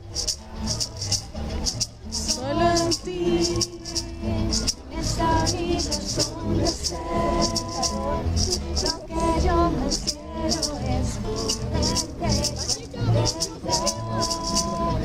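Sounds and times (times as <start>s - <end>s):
shaker ticking: 0.0s - 15.0s
song with melody and bass: 0.0s - 15.0s.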